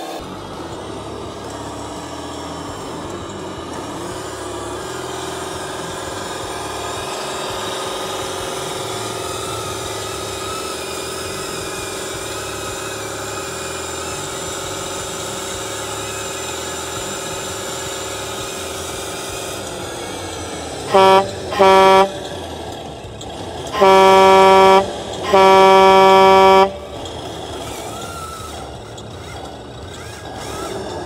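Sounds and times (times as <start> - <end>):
diesel truck engine: 0.0 - 31.0.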